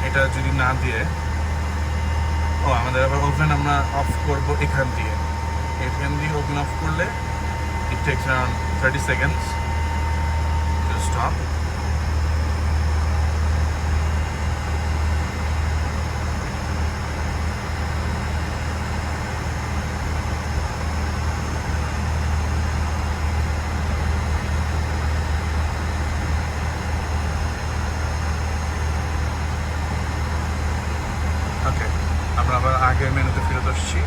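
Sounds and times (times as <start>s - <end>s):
cabin ventilation rushing air: 0.0s - 34.0s
oven fan humming: 0.0s - 34.0s.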